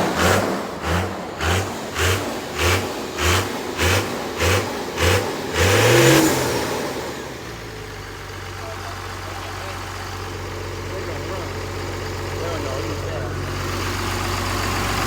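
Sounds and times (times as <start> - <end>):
diesel engine cranking: 0.0 - 15.0
diesel engine idling: 0.0 - 15.0.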